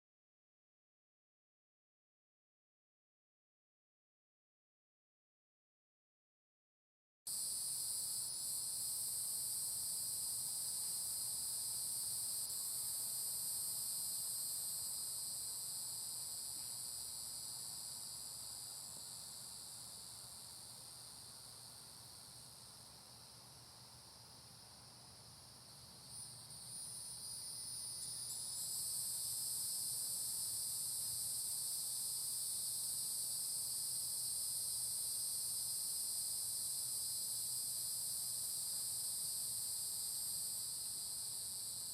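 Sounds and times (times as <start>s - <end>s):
cicadas buzzing: 7.3s - 41.9s.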